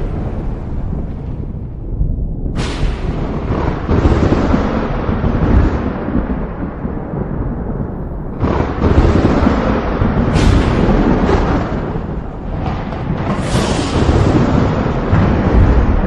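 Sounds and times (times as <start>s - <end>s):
sharp thunder crack: 0.0s - 16.0s
thunder rolling: 0.0s - 16.0s.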